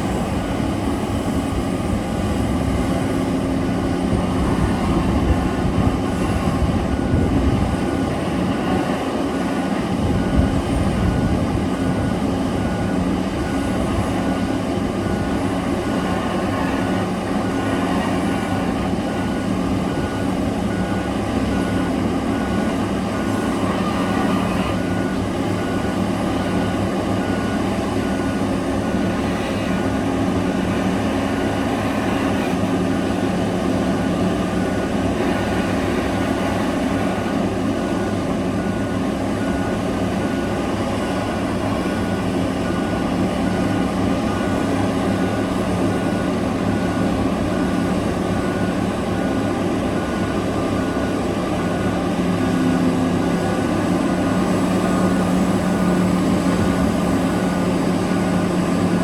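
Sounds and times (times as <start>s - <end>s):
heavy diesel engines running: 0.0s - 59.0s
high beeping alarm: 1.5s - 59.0s.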